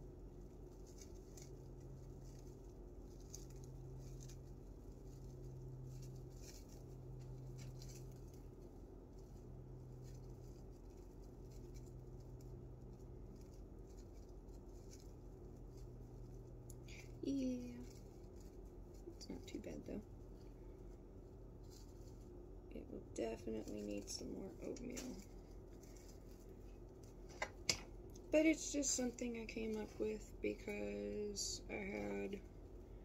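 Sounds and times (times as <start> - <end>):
low steady hum: 0.0 - 33.0
plastic wrap crinkling: 0.0 - 33.0.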